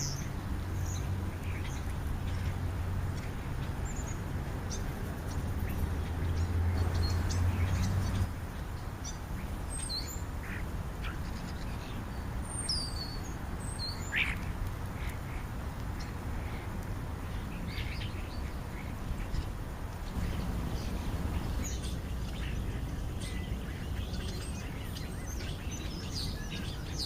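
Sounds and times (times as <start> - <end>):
starlings chirping and whistling: 0.0 - 15.4, 16.0 - 27.0.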